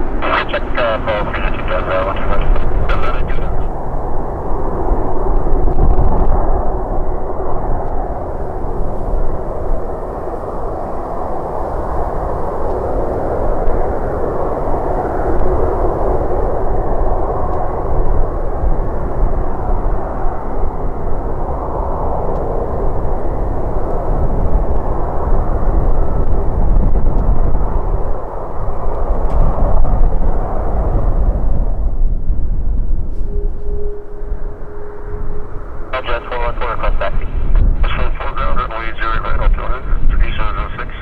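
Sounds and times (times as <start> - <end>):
jet engines roaring: 0.0 - 31.5, 33.1 - 41.0.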